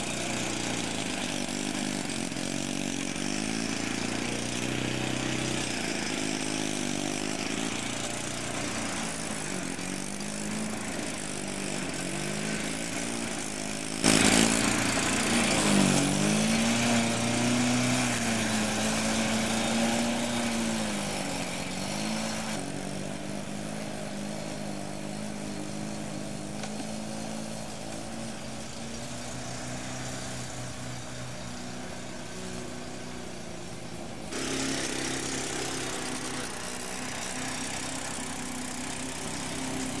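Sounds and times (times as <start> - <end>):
lawnmower engine mowing grass: 0.0 - 40.0.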